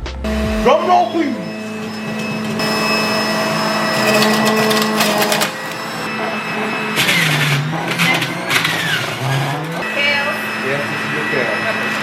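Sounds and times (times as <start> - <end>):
electric juicer motor humming: 1.1 - 12.0
juicer grinding produce: 1.2 - 12.0.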